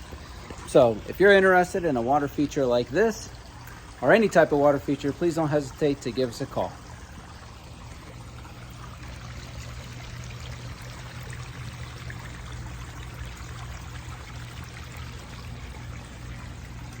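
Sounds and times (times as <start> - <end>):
water trickling over rocks: 0.0 - 17.0.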